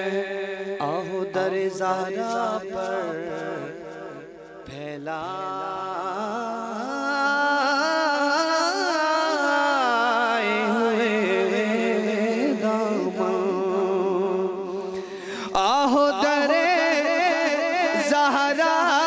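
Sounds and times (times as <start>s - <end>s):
man singing unaccompanied: 0.0s - 19.0s.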